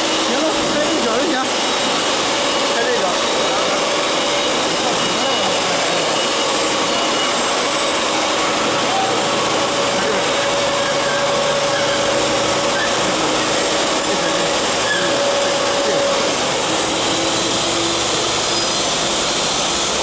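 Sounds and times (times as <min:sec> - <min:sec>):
factory machinery din: 0:00.0 - 0:20.0.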